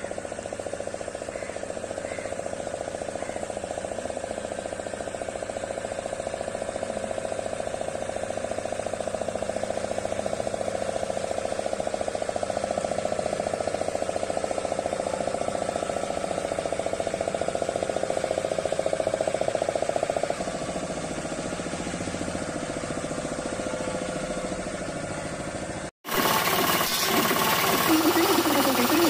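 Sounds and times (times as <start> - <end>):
small diesel engine chugging: 0.0 - 29.0.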